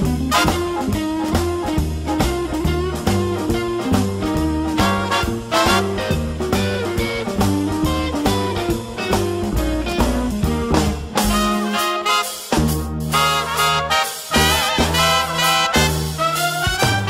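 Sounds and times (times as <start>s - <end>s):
drum kit beat: 0.0s - 17.0s
swing jazz with brass: 0.0s - 17.0s.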